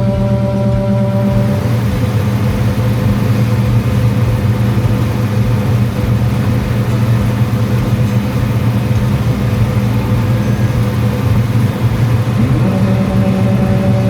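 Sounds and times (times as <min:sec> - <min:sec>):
farm machine engine humming: 0:00.0 - 0:14.0.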